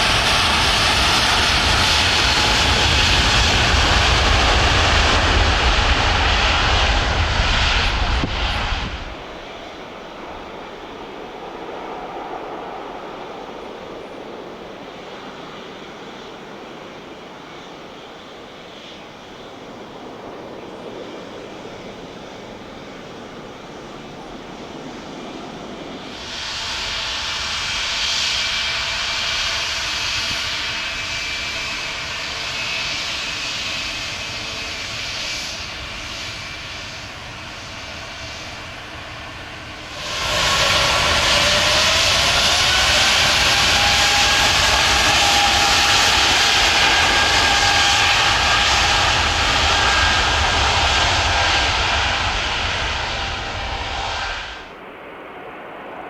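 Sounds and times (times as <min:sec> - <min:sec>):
jet engine high whine: 0:00.0 - 0:56.0
jet engines rushing: 0:00.0 - 0:56.0.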